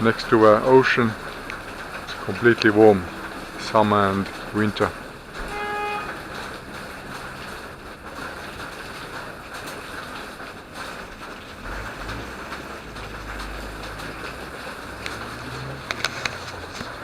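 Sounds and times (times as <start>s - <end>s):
falling water rushing: 0.0s - 17.0s.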